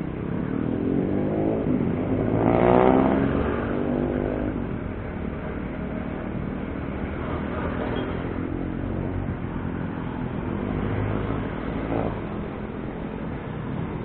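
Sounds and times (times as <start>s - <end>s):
road and wind rumble: 0.0s - 14.0s.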